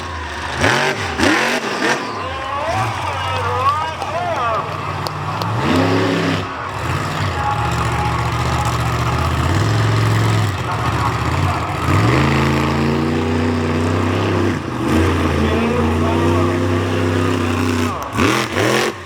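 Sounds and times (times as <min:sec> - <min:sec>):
monster truck engine running: 0:00.0 - 0:19.0.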